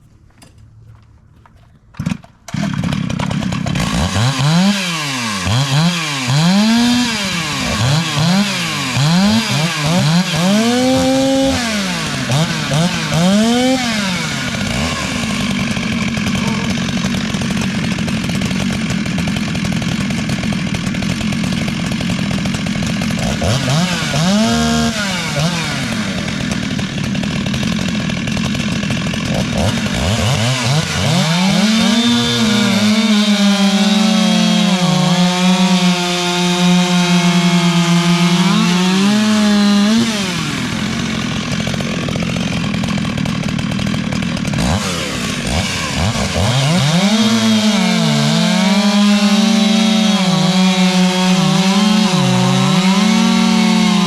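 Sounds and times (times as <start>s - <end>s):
chainsaw screaming at full throttle: 2.0s - 54.0s
chainsaws cutting a log: 2.0s - 54.0s.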